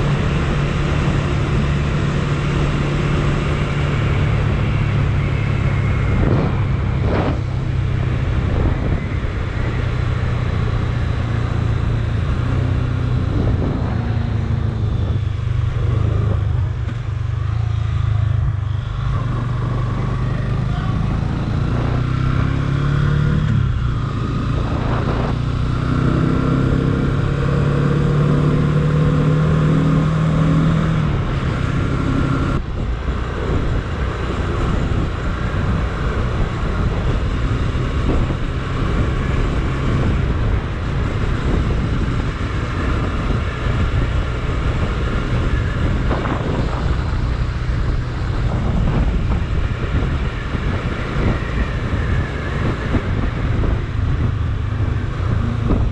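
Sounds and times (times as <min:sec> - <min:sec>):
motorcycle engine running: 0:00.0 - 0:29.8, 0:30.5 - 0:55.9
wind and road noise: 0:00.0 - 0:55.9.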